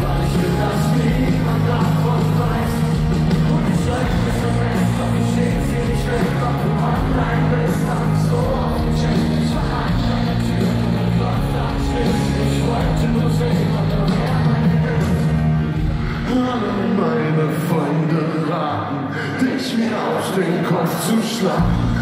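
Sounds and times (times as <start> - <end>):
live band playing loudly: 0.0 - 17.2, 21.5 - 22.0
person singing: 0.0 - 22.0.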